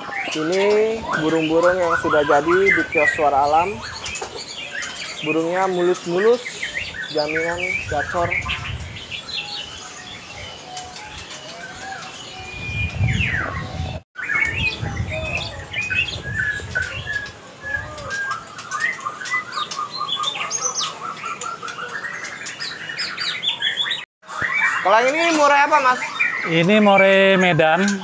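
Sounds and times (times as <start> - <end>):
birds singing whistles and chirps: 0.0 - 28.0.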